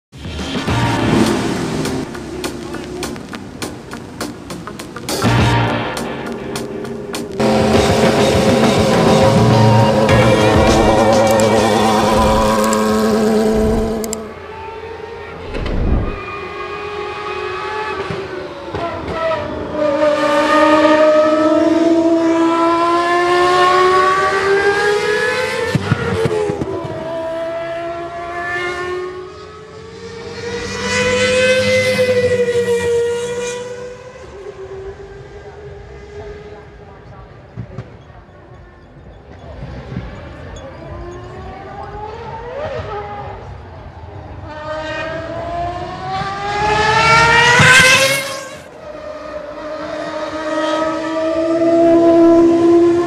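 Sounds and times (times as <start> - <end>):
racing car engine at high revs: 5.8 - 38.0, 39.6 - 53.0.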